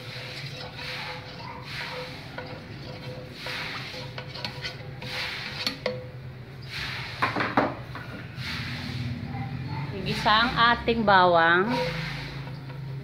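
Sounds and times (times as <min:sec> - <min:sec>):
spoon scraping frying pan: 0:00.0 - 0:09.2, 0:10.0 - 0:13.0.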